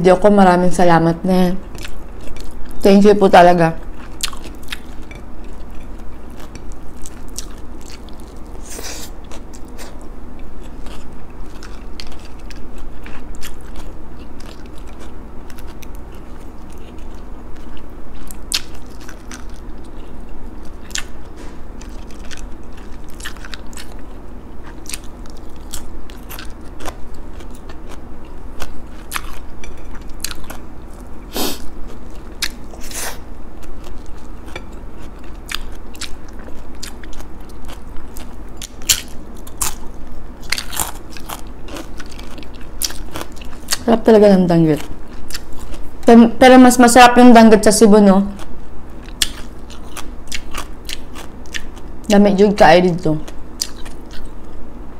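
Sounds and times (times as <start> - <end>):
chewing crunchy food: 1.6 - 3.0, 3.7 - 46.1, 48.3 - 52.1, 53.2 - 54.7.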